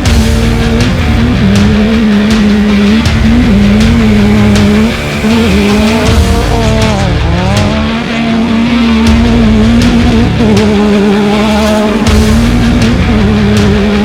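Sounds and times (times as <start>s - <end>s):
race car engine revving hard: 0.0s - 14.0s.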